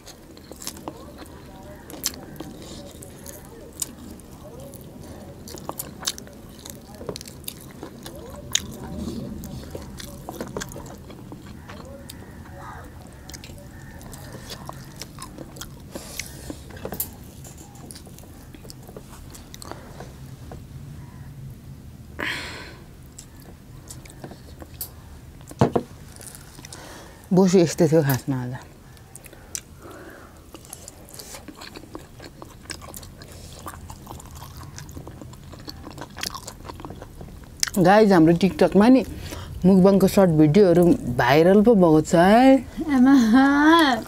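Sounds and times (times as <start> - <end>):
people chewing food: 0.0 - 21.4, 22.2 - 44.0.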